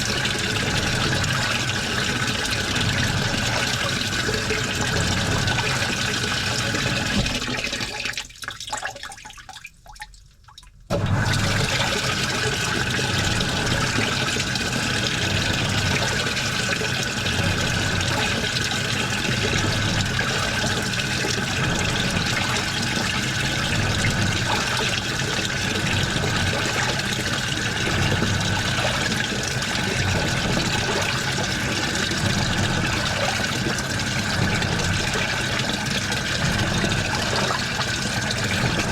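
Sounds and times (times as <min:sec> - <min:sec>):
washing machine water sloshing: 0:00.0 - 0:38.9.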